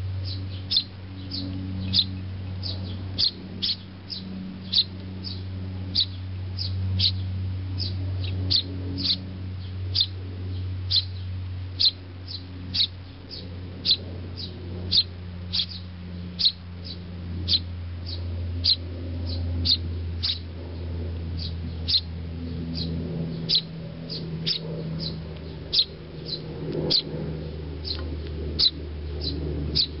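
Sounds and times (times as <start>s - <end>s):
sparrows chirping: 0.0s - 30.0s
steady low hum: 0.0s - 30.0s.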